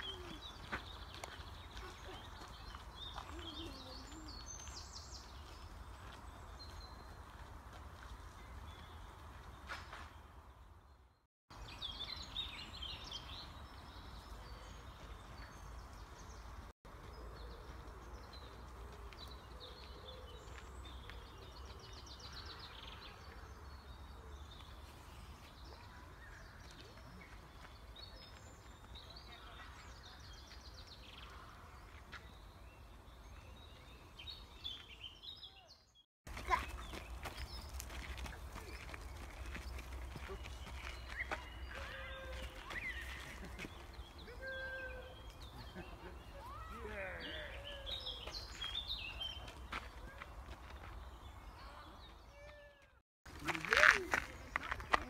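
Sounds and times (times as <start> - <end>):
songbirds singing: 0.0 - 7.5, 8.1 - 53.4.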